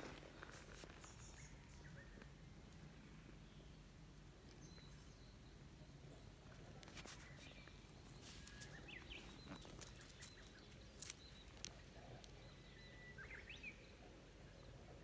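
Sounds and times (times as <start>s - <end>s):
low steady hum: 0.0s - 15.0s
distant birds chirping: 0.8s - 15.0s.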